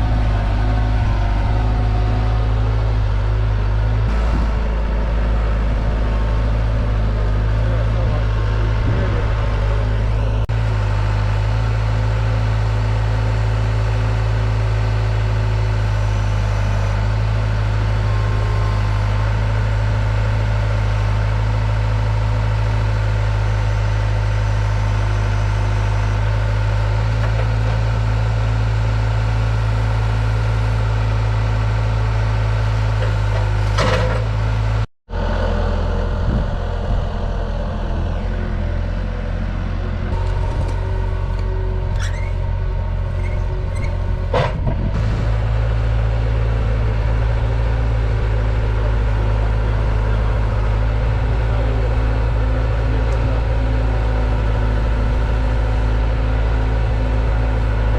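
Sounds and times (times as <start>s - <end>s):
diesel engine running steadily: 0.0s - 57.9s.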